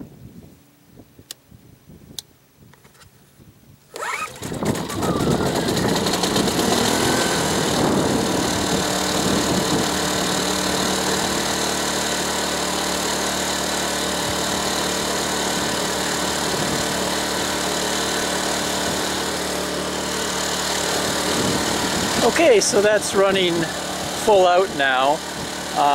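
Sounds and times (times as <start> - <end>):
generator engine running: 3.9 - 25.9.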